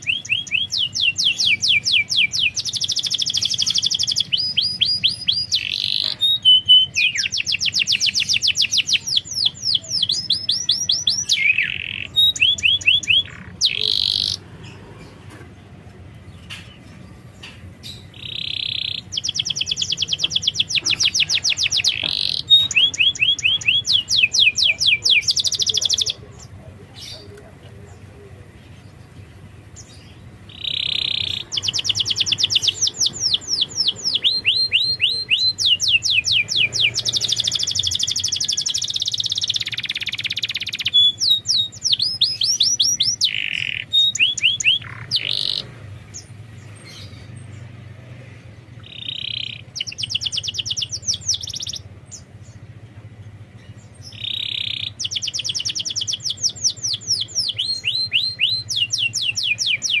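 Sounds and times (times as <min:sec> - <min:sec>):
canary singing trills: 0:00.0 - 1:00.0.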